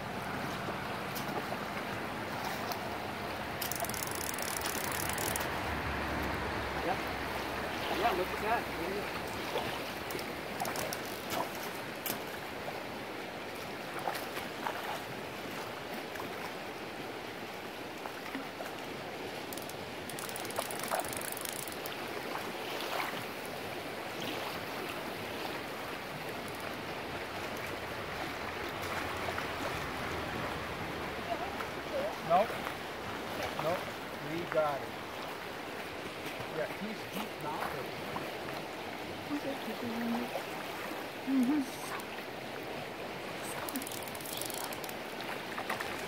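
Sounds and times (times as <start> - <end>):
river current rushing: 0.0 - 46.0.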